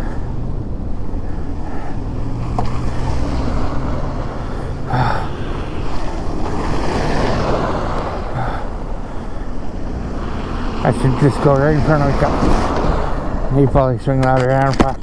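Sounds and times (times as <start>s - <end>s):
e-bike road noise in snow: 0.0s - 14.9s.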